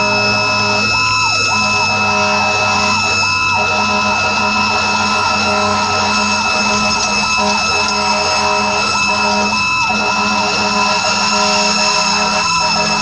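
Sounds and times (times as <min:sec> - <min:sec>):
fire engine siren yelping: 0:00.0 - 0:13.0
steady drone: 0:00.0 - 0:13.0.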